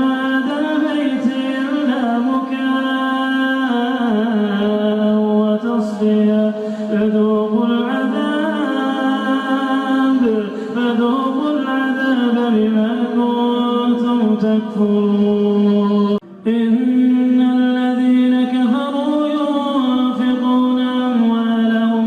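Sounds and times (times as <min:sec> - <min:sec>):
man chanting melodic recitation: 0:00.0 - 0:22.0.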